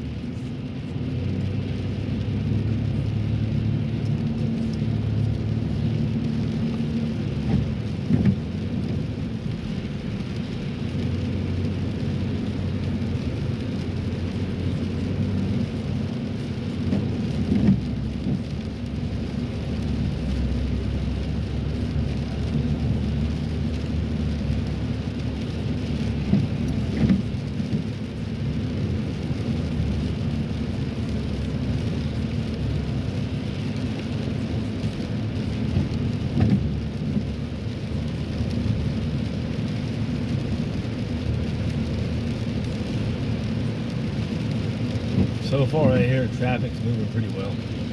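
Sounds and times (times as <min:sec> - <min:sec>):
car driving on wet road: 0:00.0 - 0:47.9
tyres hissing and rain: 0:00.0 - 0:47.9.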